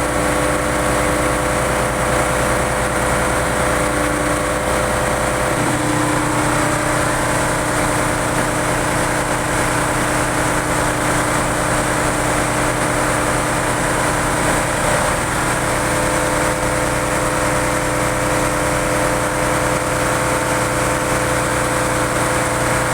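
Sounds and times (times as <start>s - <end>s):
engine-room machinery drone: 0.0s - 22.9s.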